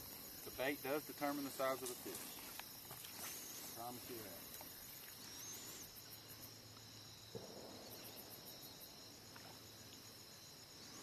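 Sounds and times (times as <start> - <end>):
faint insect chorus: 0.0 - 11.0.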